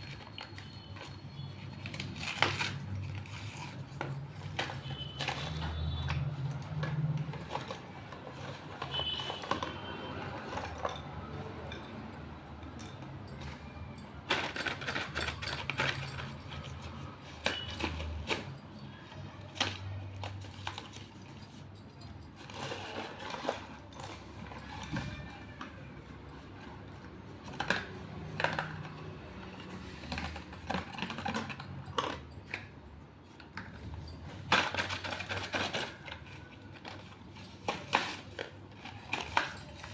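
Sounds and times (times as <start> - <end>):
slate pencils clicking and rattling: 0.0 - 39.9.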